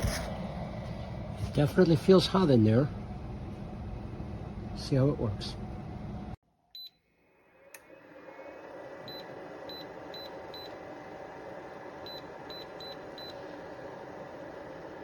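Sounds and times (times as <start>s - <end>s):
dryer fan whirring: 0.0s - 6.4s, 7.6s - 15.0s.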